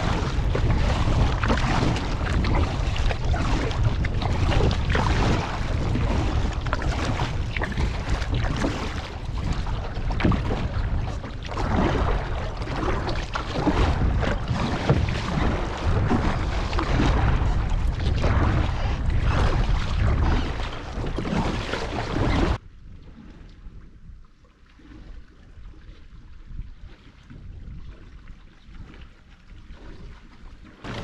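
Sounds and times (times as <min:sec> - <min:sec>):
paddle strokes splashing water: 0:00.0 - 0:31.0
wind rumbling on microphone: 0:00.0 - 0:31.0.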